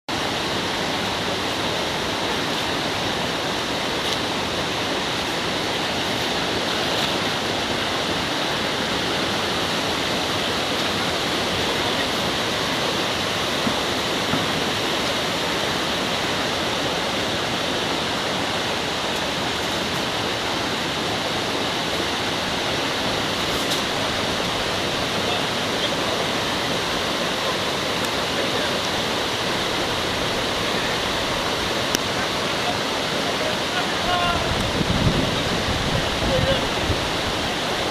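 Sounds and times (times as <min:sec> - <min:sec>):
stream rushing over rocks: 0:00.1 - 0:37.9.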